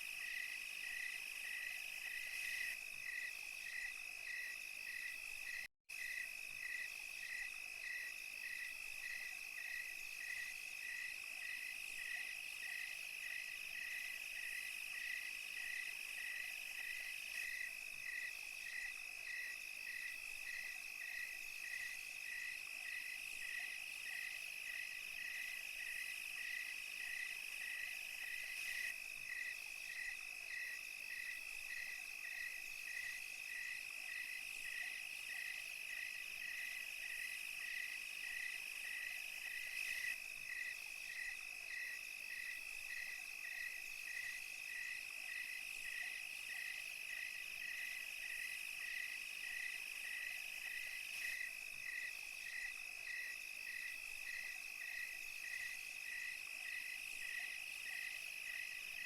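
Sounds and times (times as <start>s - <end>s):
cricket chirping: 0.0s - 59.0s
insects trilling: 0.0s - 59.0s.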